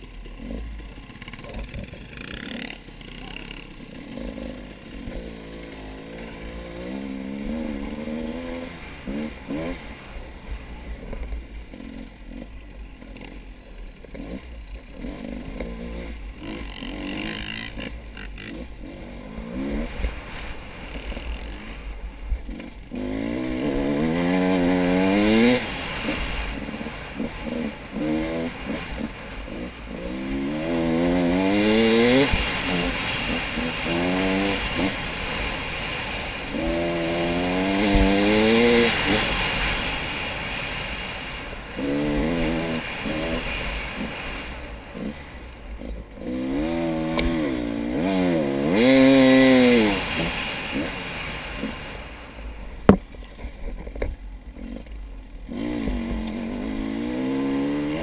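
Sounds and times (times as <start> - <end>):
vehicle engine accelerating: 0.0 - 52.4.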